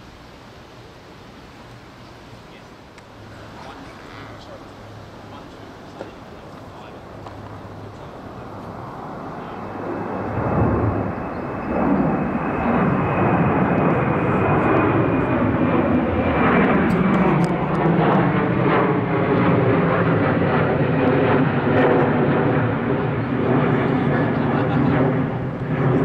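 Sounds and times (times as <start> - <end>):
faint high whine: 0.0 - 21.0
jet engines running loud: 0.0 - 26.0.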